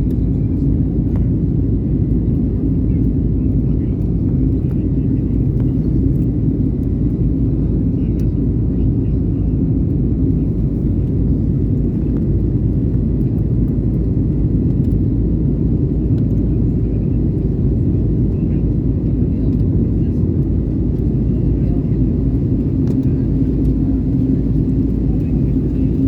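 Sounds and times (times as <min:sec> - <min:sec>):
airliner engines rumbling: 0:00.0 - 0:26.0.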